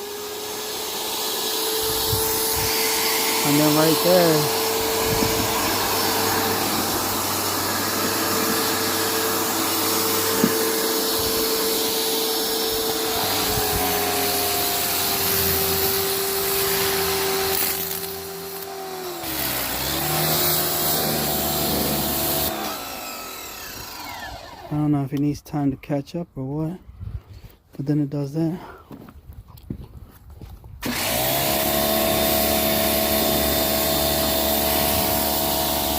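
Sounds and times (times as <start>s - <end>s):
pressure washer motor and pump: 0.0s - 24.9s, 30.8s - 35.9s.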